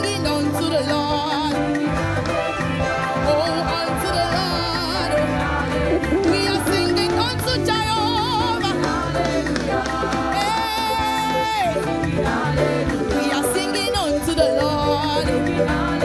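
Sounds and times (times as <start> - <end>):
gospel singing over a band: 0.0 - 16.0.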